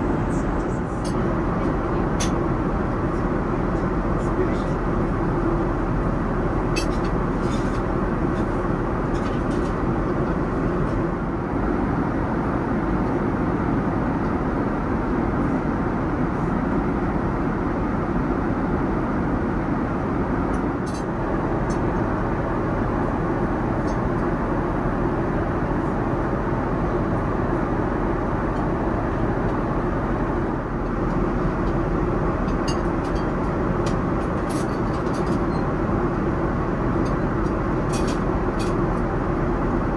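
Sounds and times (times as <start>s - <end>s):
aircraft engine rumble: 0.0s - 39.9s.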